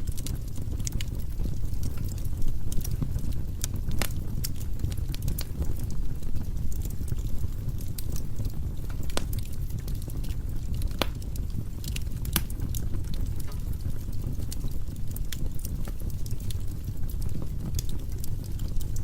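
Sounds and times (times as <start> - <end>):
flames rumbling: 0.0 - 19.0
logs crackling and popping: 0.0 - 19.0.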